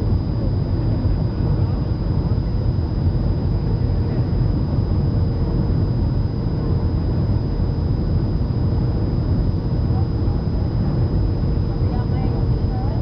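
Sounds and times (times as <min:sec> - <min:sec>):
airliner cabin engine rumble: 0:00.0 - 0:13.0
thin high whine: 0:00.0 - 0:13.0.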